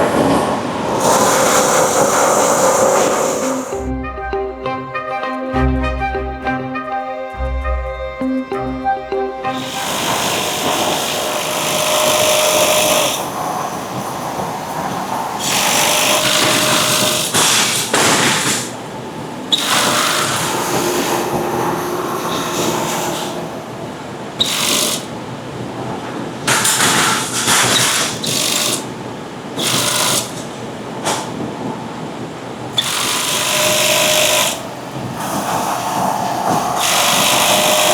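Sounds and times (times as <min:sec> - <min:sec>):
factory machinery running: 0:00.0 - 0:37.9.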